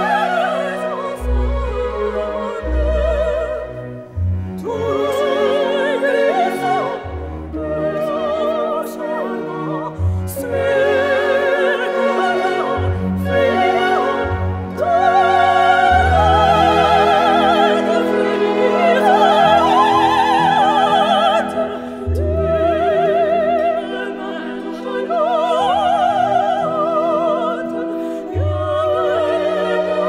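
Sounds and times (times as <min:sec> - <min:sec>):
operatic singing with orchestra: 0:00.0 - 0:30.0.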